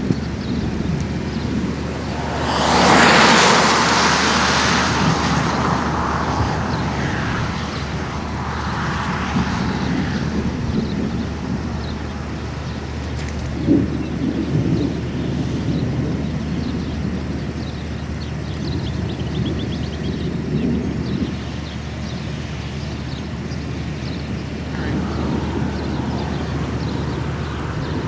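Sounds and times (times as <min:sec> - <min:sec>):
loud rushing wind: 0:00.0 - 0:28.0
storm low rumble: 0:00.0 - 0:28.0.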